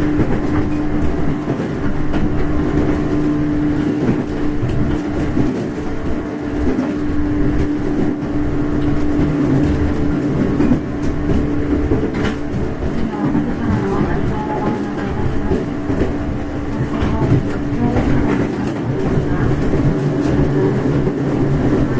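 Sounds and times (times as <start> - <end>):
constant train hum: 0.0 - 21.9
train wheels rumbling on rails: 0.0 - 21.9.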